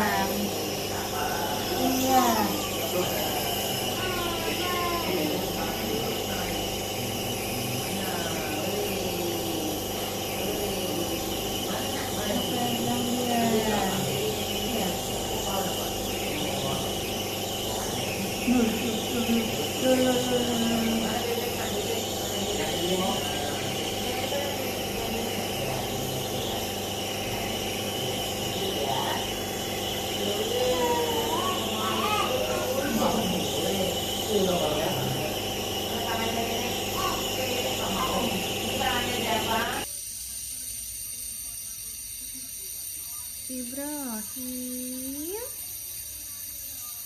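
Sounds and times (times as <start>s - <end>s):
faint voices: 0.0s - 47.0s
steady mechanical hum: 0.0s - 47.0s.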